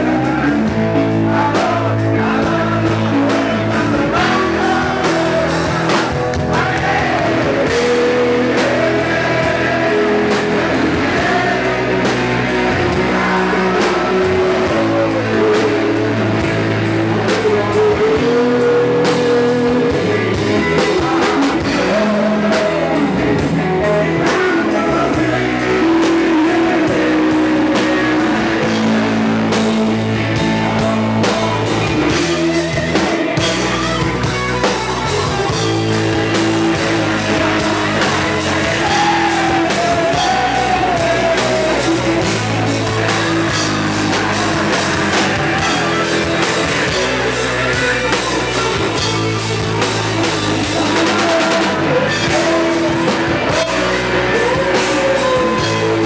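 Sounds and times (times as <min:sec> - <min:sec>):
rock music with singing: 0:00.0 - 0:56.0.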